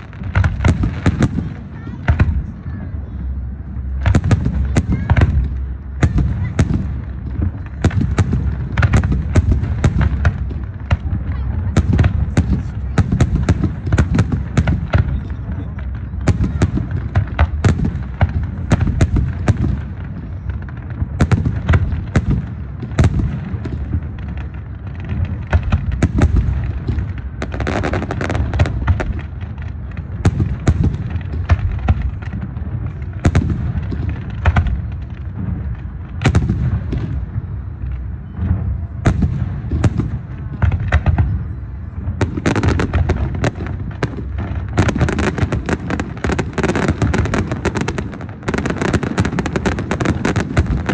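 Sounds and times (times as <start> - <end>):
firework crackle: 0.0 - 50.9.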